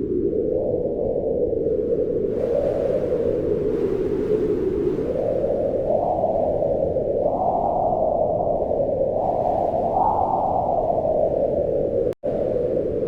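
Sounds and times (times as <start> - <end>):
wind blowing in gusts: 0.0 - 13.0.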